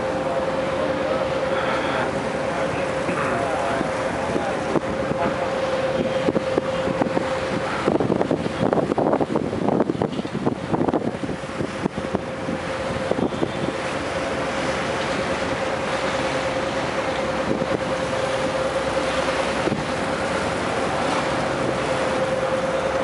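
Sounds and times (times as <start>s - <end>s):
boat engine droning: 0.0s - 23.0s
wind on microphone: 2.8s - 23.0s.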